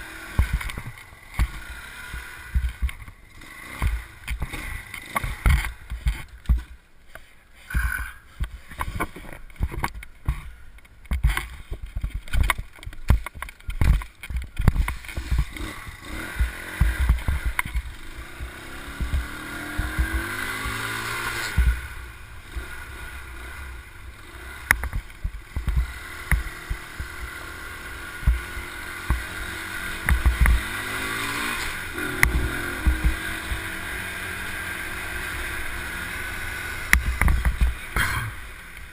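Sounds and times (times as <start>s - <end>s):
motorbike engine revving: 0.0s - 6.3s, 13.8s - 38.9s.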